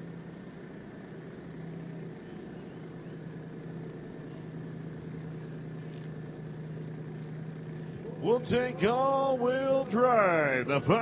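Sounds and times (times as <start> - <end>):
race car engine idling: 0.0 - 11.0.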